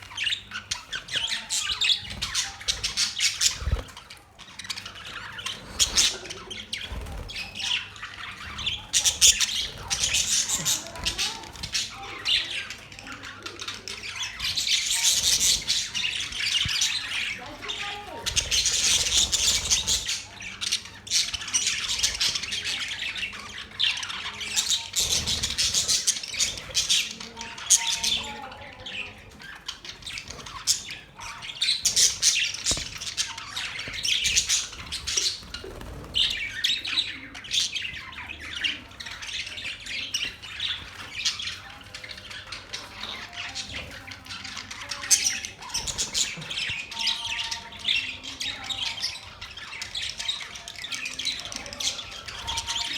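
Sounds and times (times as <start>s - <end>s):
budgerigars chirping and squawking: 0.0s - 52.9s.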